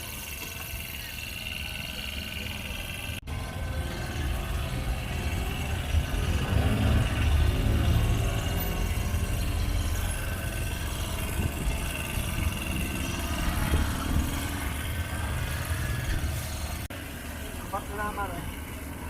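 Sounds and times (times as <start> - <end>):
low engine rumble: 0.0 - 19.0
street noise: 0.0 - 19.0.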